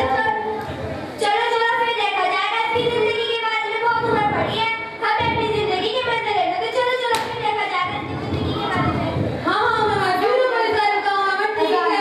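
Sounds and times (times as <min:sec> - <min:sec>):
girl singing into a microphone: 0:01.2 - 0:12.0.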